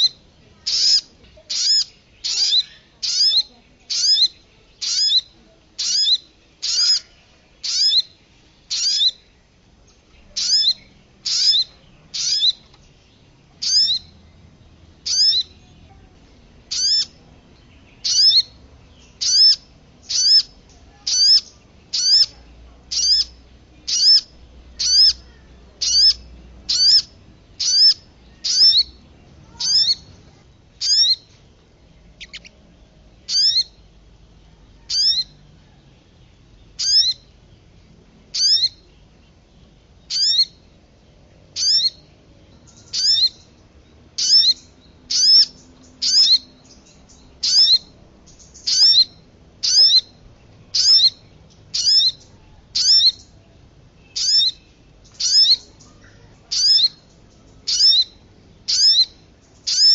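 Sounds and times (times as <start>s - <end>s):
sharp high-pitched bird calls: 0.0s - 13.0s, 13.6s - 14.3s, 15.0s - 15.9s, 16.6s - 31.4s, 32.1s - 32.6s, 33.2s - 33.9s, 34.8s - 35.4s, 36.7s - 37.4s, 38.3s - 39.0s, 40.0s - 40.7s, 41.6s - 43.6s, 44.2s - 53.4s, 54.0s - 59.9s.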